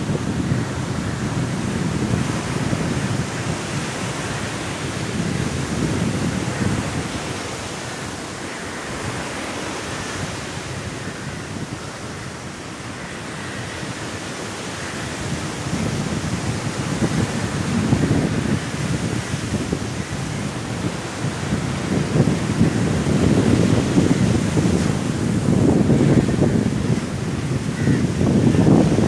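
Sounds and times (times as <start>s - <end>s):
sea waves washing on shore: 0.0s - 29.0s
strong wind: 0.0s - 29.0s.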